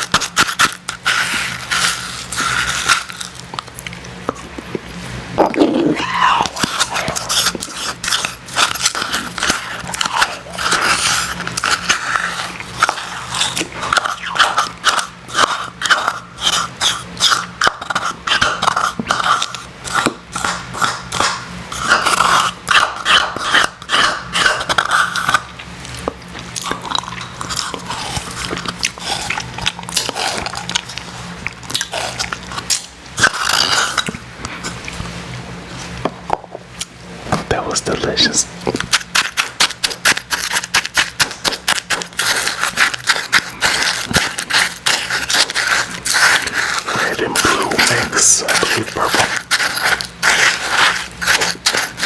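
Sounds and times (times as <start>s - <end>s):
person chewing icy slush: 0.0s - 36.0s, 36.8s - 52.0s.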